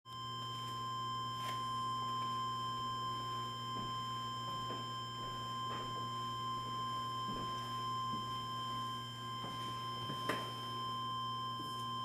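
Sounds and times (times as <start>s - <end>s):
high electronic whine: 0.1s - 12.0s
low electrical hum: 0.1s - 12.0s.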